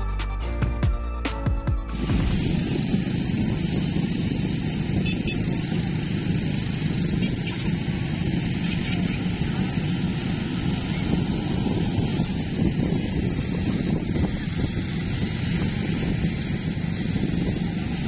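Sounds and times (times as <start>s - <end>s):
wind buffeting microphone: 2.0s - 18.0s.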